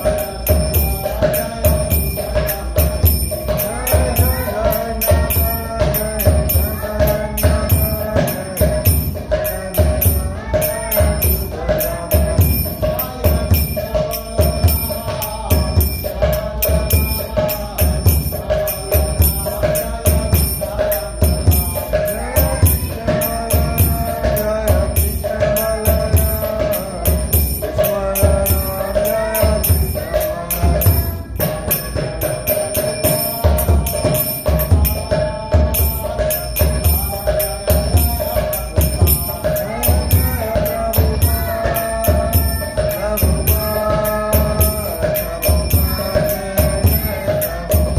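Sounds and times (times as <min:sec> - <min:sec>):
jingling hand percussion: 0:00.0 - 0:47.9
steady drum beat: 0:00.0 - 0:47.9
wavering melody: 0:00.0 - 0:47.9.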